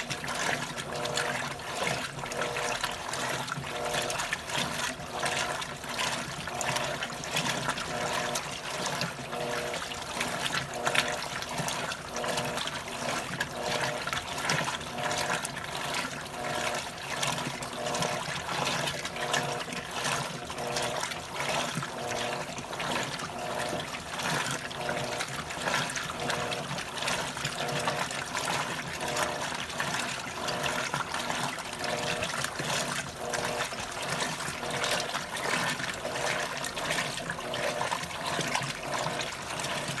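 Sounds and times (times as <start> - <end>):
pulsing motor hum: 0.0 - 40.0
water sloshing in washing machine: 0.0 - 40.0.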